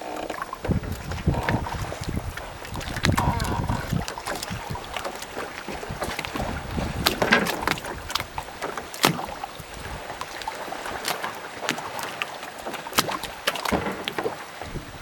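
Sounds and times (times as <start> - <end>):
boat hulls knocking: 0.0 - 15.0
hiss of wind and water: 0.0 - 15.0
water lapping: 0.0 - 15.0.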